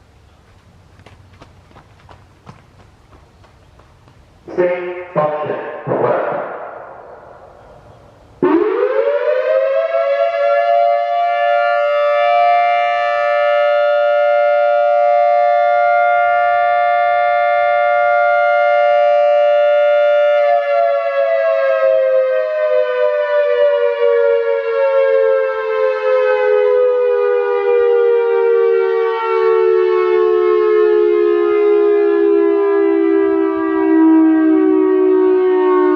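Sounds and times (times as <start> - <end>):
electronic warning siren: 4.5 - 35.9.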